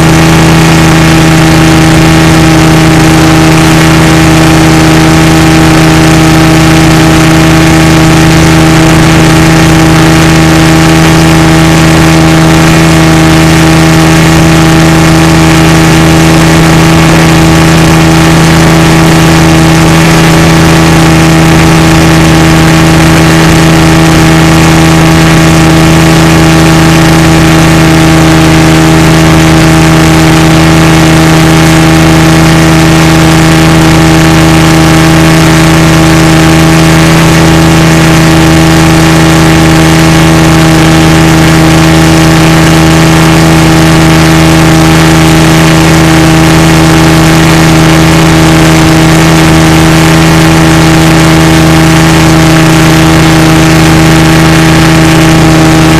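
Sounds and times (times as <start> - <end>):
motorboat engine running: 0.0 - 55.9.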